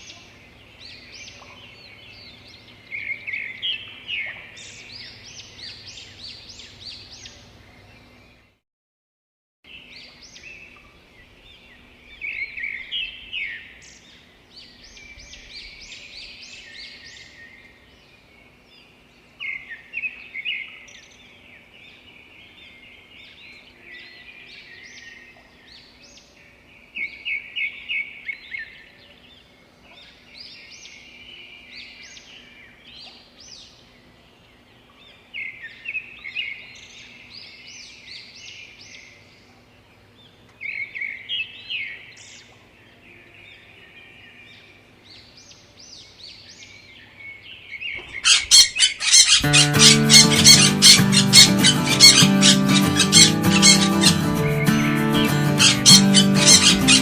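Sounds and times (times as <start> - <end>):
birds chirping and trilling: 0.0 - 8.6, 9.7 - 57.0.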